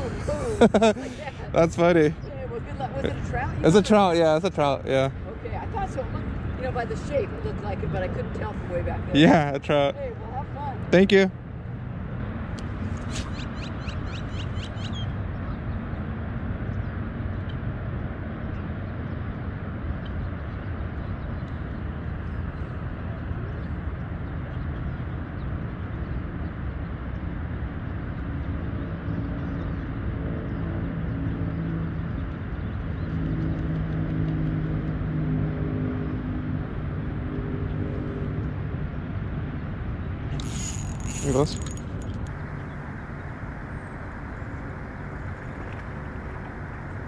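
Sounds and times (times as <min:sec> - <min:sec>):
low outdoor rumble: 0:00.0 - 0:30.0, 0:30.7 - 0:47.0
distant engine drone: 0:00.0 - 0:47.0.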